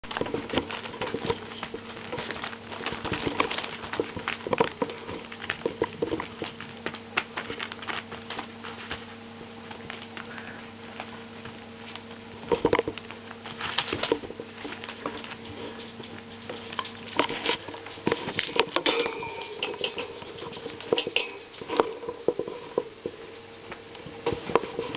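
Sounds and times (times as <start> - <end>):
puppies moving about: 0.0 - 24.9
steady low hum: 0.0 - 24.9.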